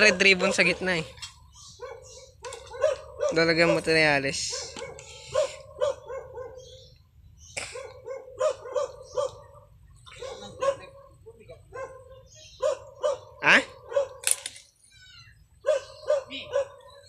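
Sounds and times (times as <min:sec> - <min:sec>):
dog barking: 0:00.0 - 0:01.1, 0:01.8 - 0:06.9, 0:07.6 - 0:14.2, 0:15.6 - 0:17.0
dog yelping: 0:01.7 - 0:07.0, 0:07.7 - 0:14.2, 0:15.0 - 0:17.0.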